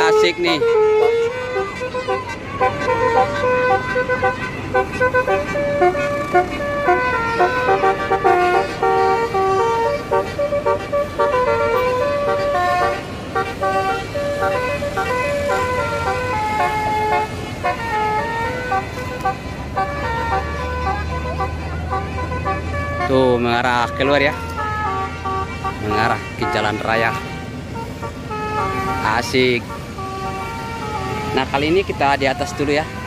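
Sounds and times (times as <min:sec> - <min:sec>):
bus air horns playing tune: 0:00.0 - 0:33.0.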